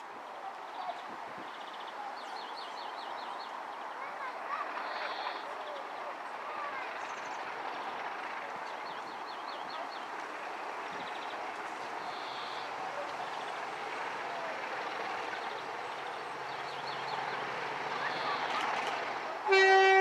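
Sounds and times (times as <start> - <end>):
low locomotive engine drone: 0.0 - 20.0
train rail noise: 0.0 - 20.0.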